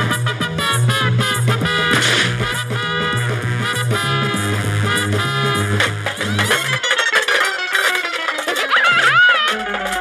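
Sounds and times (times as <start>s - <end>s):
instrumental cartoon music: 0.0s - 10.0s.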